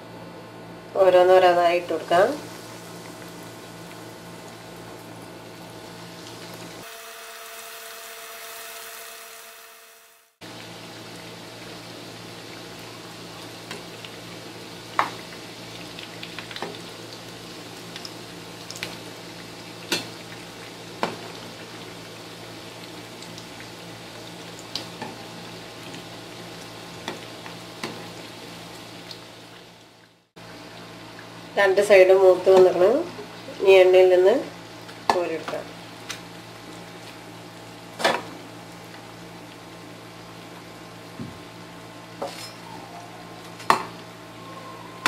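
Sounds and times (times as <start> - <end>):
food sizzling in hot oil: 2.0 - 45.0.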